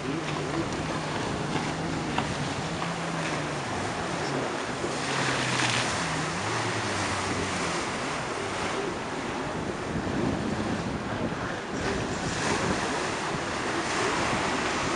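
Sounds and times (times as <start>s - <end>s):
distant jet ski engine droning: 0.0s - 14.9s
surf breaking: 0.0s - 14.9s
wind buffeting microphone: 0.0s - 14.9s.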